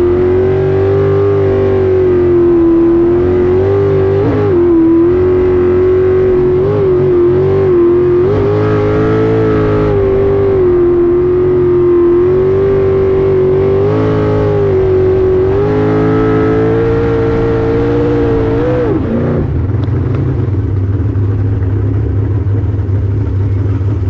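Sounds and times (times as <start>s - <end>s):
boat engine running hard: 0.0s - 24.0s.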